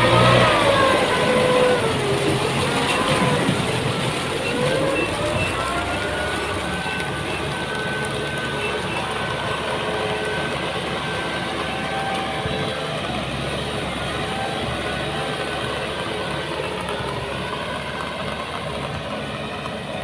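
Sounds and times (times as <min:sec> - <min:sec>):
diesel engine running: 0:00.0 - 0:20.0
thin whining tones: 0:00.0 - 0:20.0.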